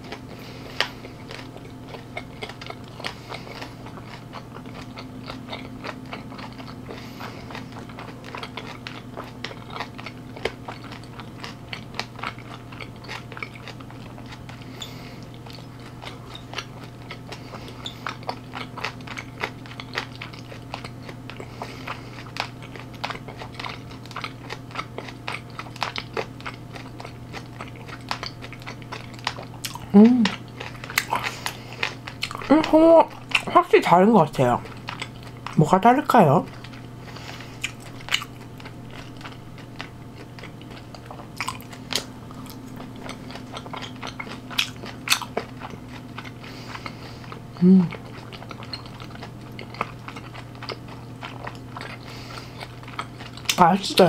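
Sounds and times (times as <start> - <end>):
chewing and crunching food: 0.0 - 54.0
steady low hum: 0.0 - 54.0.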